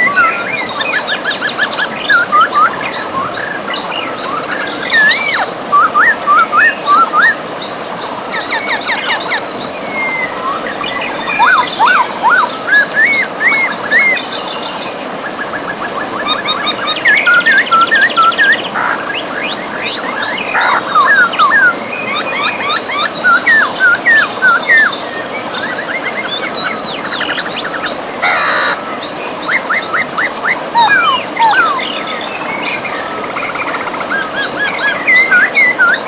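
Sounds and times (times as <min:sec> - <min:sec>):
birds singing: 0:00.0 - 0:36.0
river water rushing: 0:00.0 - 0:36.0.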